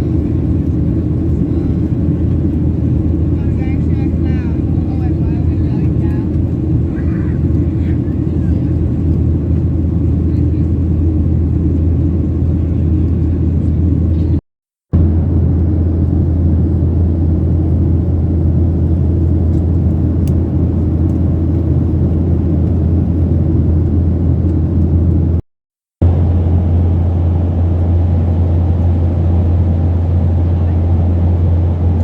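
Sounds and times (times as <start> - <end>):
airplane cabin drone: 0.0 - 25.4, 26.0 - 32.0.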